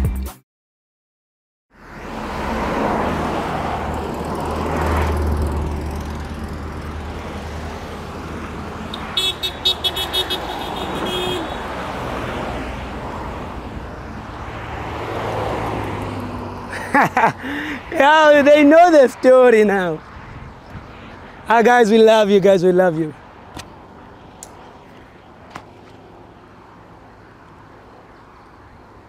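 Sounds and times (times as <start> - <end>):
road traffic passing: 1.7 - 29.0.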